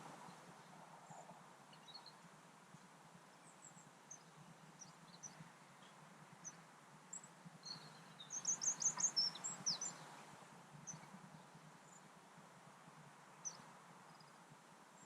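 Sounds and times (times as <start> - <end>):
faint low background noise: 0.0 - 15.0
small birds chirping: 0.2 - 12.2, 13.3 - 15.0.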